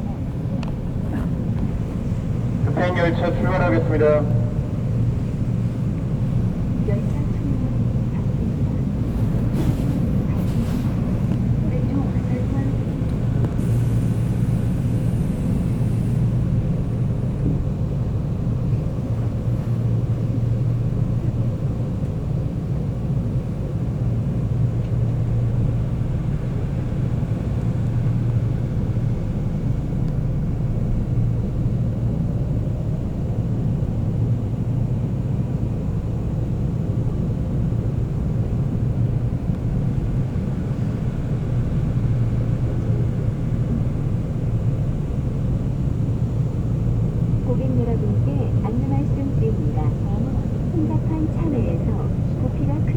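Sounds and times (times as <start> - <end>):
train wheels and motors rumbling: 0.0 - 52.9.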